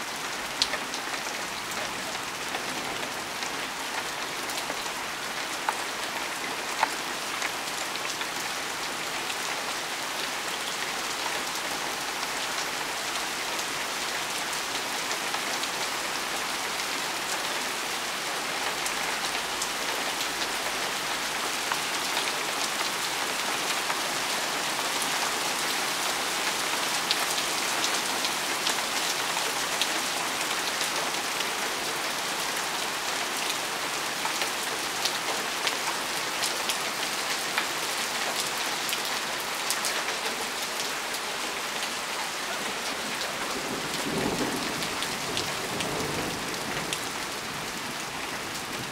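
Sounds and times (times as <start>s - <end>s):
heavy rain on wet pavement: 0.0s - 48.9s.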